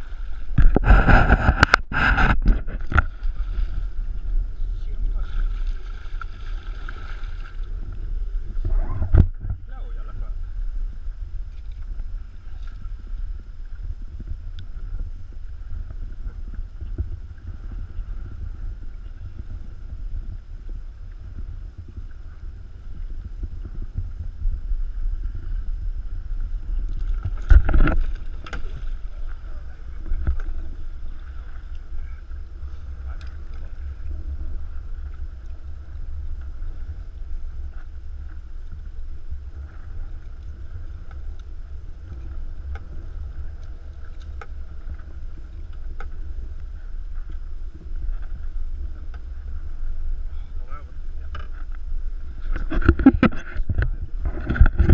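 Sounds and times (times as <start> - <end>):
faint steady hum: 0.0 - 54.9
wind and water rumble: 0.0 - 54.9.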